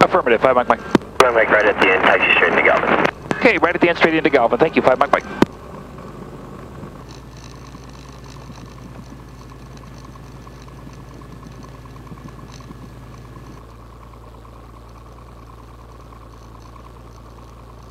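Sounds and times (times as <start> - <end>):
aircraft engine idling: 0.0 - 17.9.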